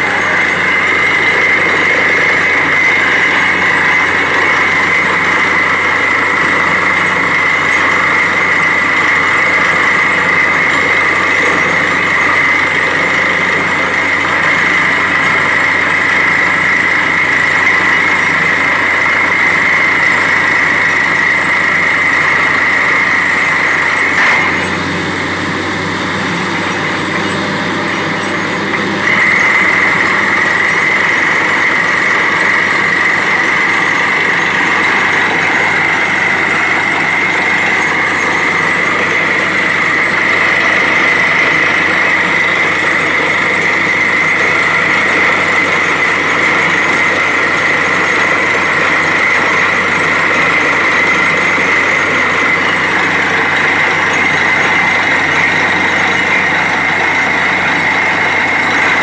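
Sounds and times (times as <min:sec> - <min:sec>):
drilling rig with high-pitched whine: 0:00.0 - 0:59.0.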